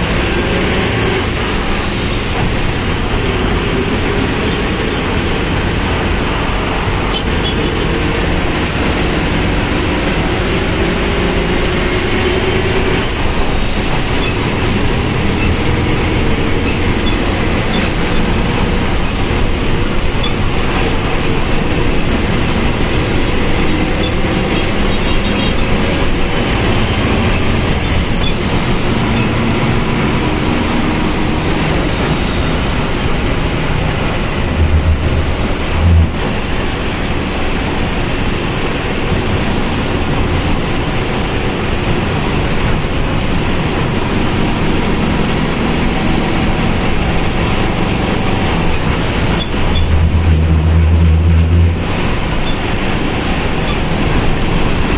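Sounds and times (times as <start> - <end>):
diesel bus engine running: 0.0 - 54.9
road noise: 0.0 - 54.9.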